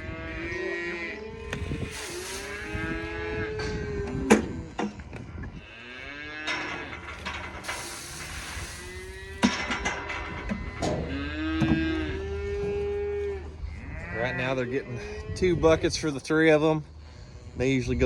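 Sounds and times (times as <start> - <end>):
steers mooing: 0.0 - 4.8, 5.5 - 16.4.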